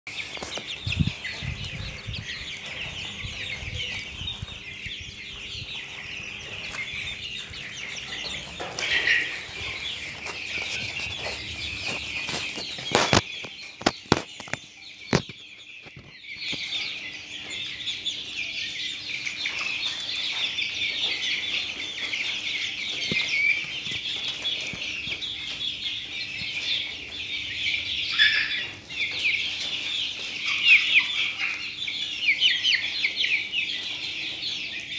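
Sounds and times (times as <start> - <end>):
chicks peeping and cheeping: 0.1 - 34.9.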